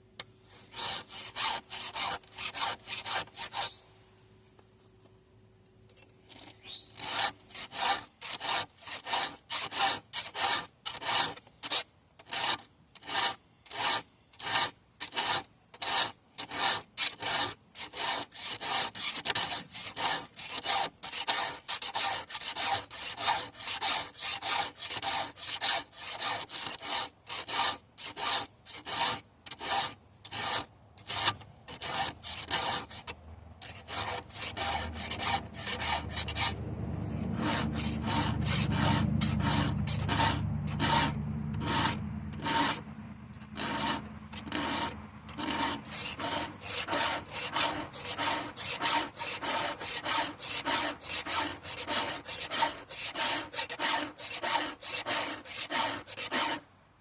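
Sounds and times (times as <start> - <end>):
file rasping on chainsaw chain: 0.7 - 3.7, 6.3 - 56.6.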